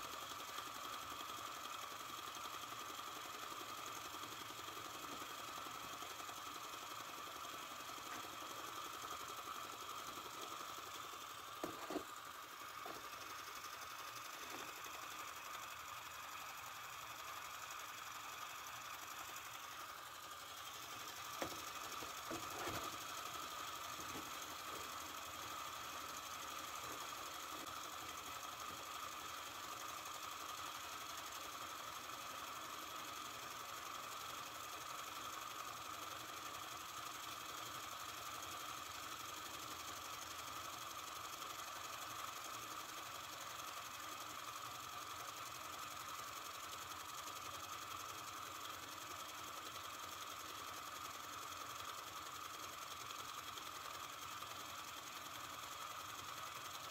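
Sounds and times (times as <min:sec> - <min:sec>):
toy steam engine running: 0:00.0 - 0:56.9.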